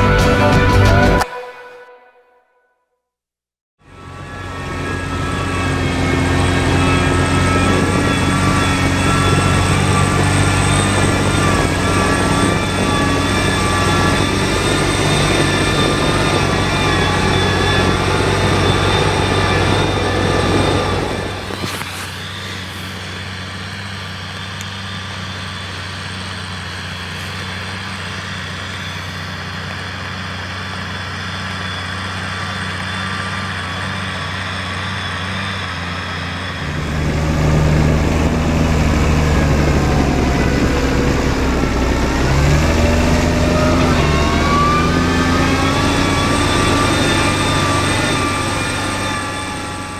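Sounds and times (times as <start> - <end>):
tractor diesel engine running: 0.0 - 1.2, 3.9 - 49.9.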